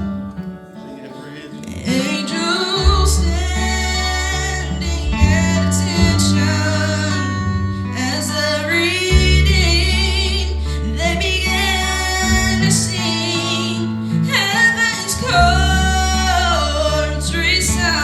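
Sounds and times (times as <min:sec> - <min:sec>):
instrumental accompaniment: 0:00.0 - 0:18.0
group singing gospel song: 0:00.9 - 0:18.0
deep bass line: 0:01.9 - 0:18.0.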